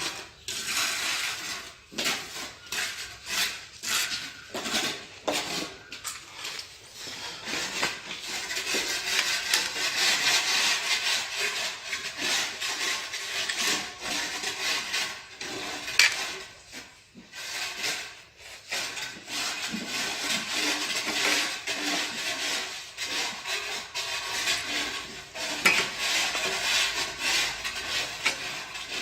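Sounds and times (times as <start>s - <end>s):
hand tool scraping mortar and tile: 0.0s - 29.0s.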